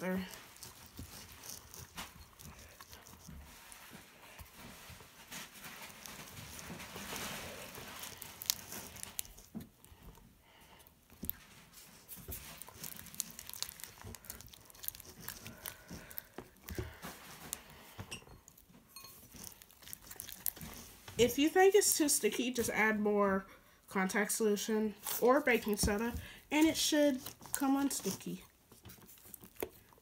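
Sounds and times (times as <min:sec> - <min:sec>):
slime crackling while stirred: 0:00.0 - 0:22.9, 0:25.0 - 0:30.0.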